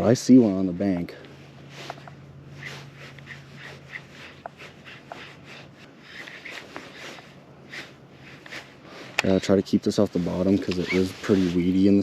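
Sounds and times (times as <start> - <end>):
fishing reel ticking: 1.6 - 12.0.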